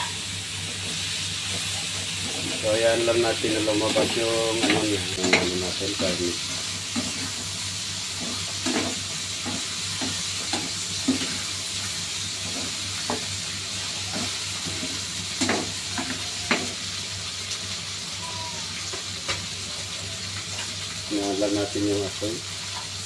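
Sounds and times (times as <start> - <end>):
meat sizzling in frying pan: 0.0 - 23.0.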